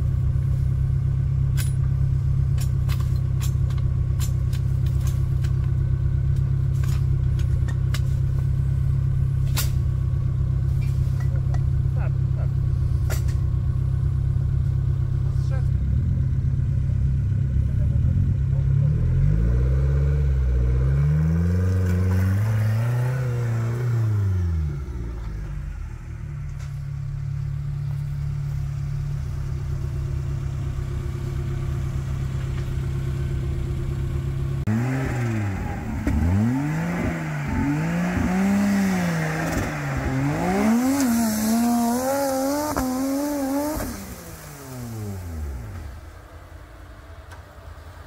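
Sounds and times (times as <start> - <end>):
off-road vehicle engine revving: 1.5 - 46.3.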